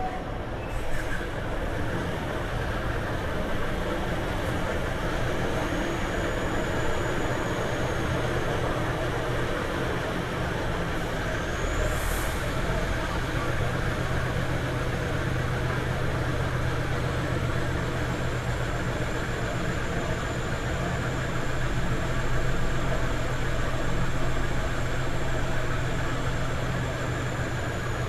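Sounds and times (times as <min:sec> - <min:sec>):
ferry engines droning: 0:00.0 - 0:28.0.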